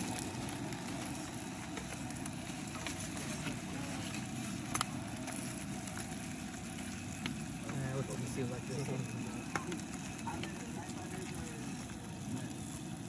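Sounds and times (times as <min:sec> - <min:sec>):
campfire crackling: 0:00.0 - 0:13.0
fire popping: 0:00.0 - 0:13.0
low steady rumble: 0:00.0 - 0:13.0.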